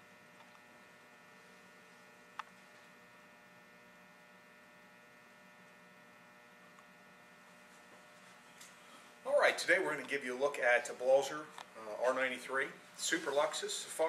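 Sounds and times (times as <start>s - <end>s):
faint mains hum: 0.0s - 14.0s.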